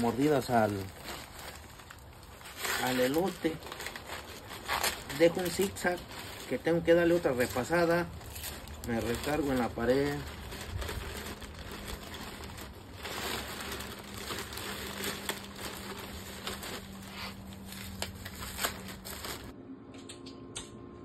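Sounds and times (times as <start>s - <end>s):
corn husks tearing and rustling: 0.0s - 19.5s.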